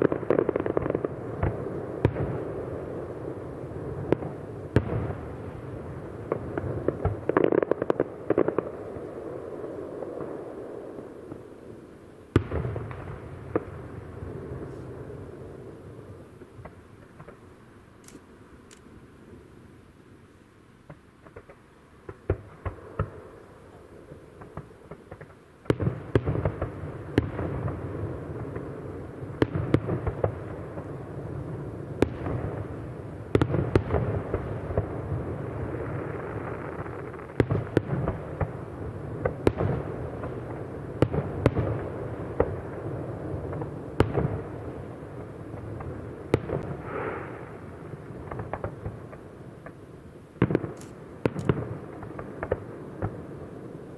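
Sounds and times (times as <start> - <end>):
fireworks bangs and crackle: 0.0 - 17.6, 20.8 - 53.9.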